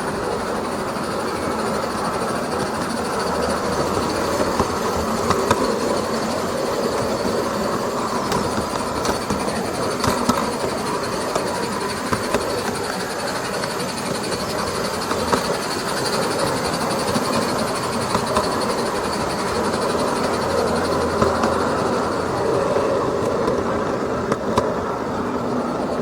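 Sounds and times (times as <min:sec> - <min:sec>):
model train running rumble and hiss: 0:00.0 - 0:26.0
wheels clicking over rail joints: 0:00.0 - 0:26.0.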